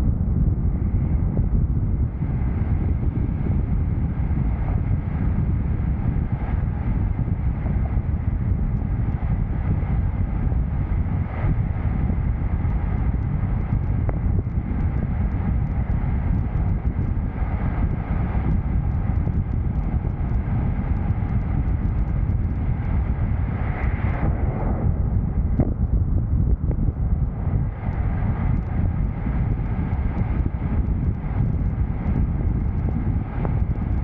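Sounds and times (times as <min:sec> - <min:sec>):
wind buffeting microphone: 0:00.0 - 0:34.0
vehicle road noise rumble: 0:00.4 - 0:34.0.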